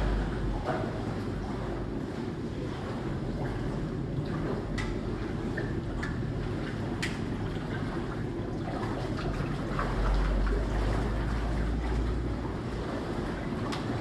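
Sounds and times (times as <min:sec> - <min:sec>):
cooking burners rumbling: 0:00.0 - 0:14.0.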